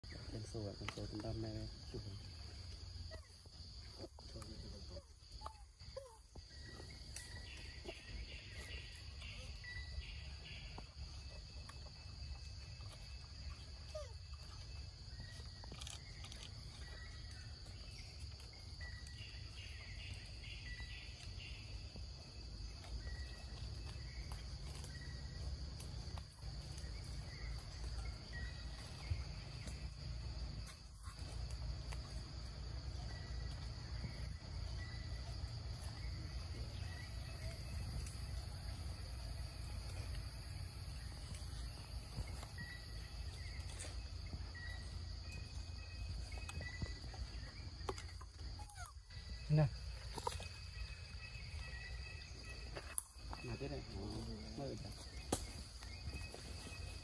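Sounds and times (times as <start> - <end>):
forest insects droning: 0.0 - 57.0
insect chirps: 0.0 - 57.0.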